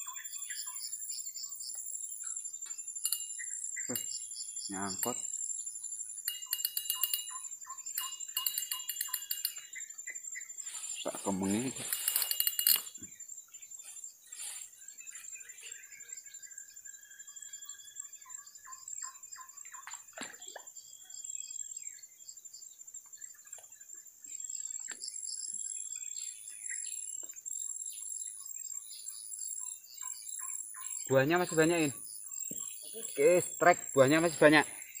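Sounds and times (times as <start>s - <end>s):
high insect drone: 0.0s - 20.2s, 20.8s - 35.0s
forest birds chirping: 0.0s - 35.0s
high pulsing insect call: 0.0s - 35.0s.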